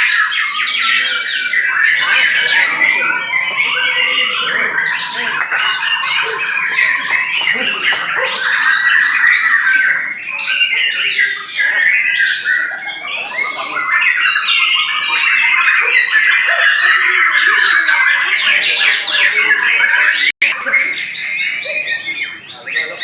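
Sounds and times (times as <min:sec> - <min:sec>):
chorus of songbirds singing: 0:00.0 - 0:23.0.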